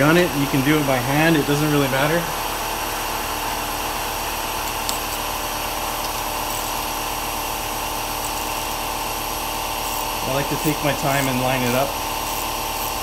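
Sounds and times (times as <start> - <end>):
machine whir and hum: 0.0 - 13.0.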